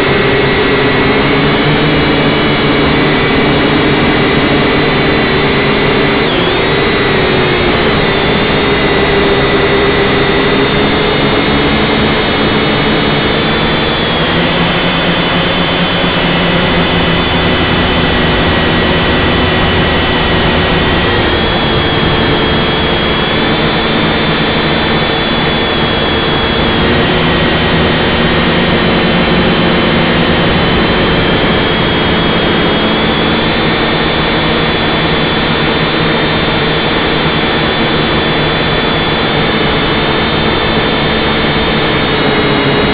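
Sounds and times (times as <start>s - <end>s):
constant rushing noise: 0.0s - 42.9s
drone motors whining: 0.0s - 42.9s.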